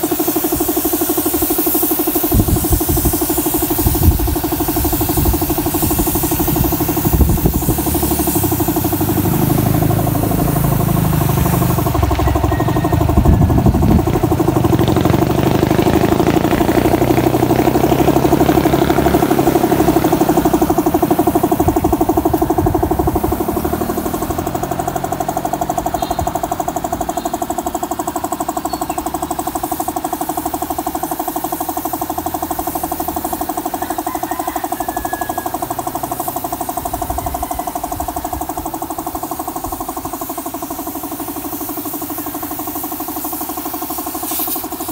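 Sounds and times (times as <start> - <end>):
air compressor running: 0.0 - 44.9
spray gun hissing air: 0.0 - 44.9.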